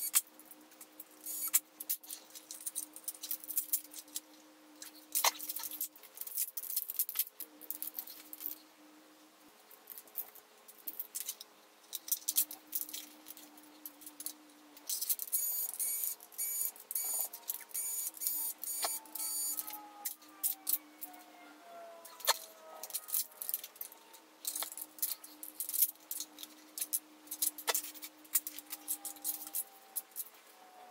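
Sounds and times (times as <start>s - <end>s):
faint steady hum: 0.0s - 30.9s
screws and metal parts clinking: 1.1s - 4.2s, 4.8s - 8.6s, 9.9s - 21.2s, 22.0s - 30.4s.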